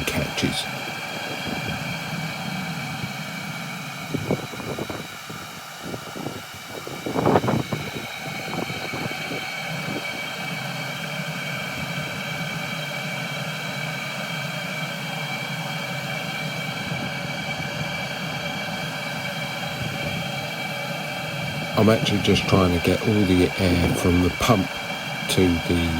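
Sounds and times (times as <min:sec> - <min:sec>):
heater blower humming: 0:00.0 - 0:25.9.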